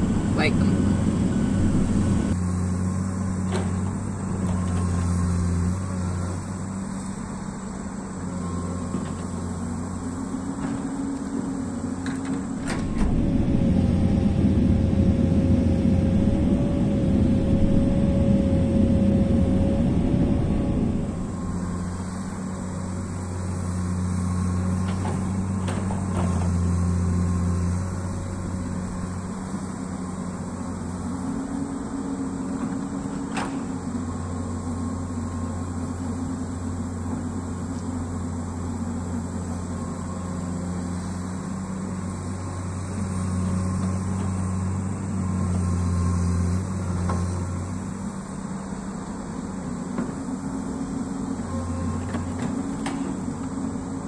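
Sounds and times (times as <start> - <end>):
excavator diesel engine digging: 0.0 - 54.0.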